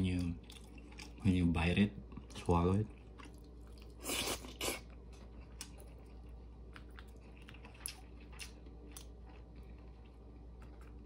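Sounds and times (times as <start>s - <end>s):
person chewing: 0.0s - 1.4s, 2.0s - 11.0s.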